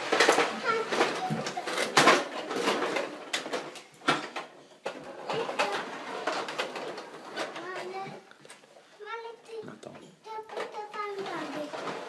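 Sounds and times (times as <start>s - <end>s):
toy vehicles knocking on floor: 0.0s - 8.6s, 9.9s - 12.0s.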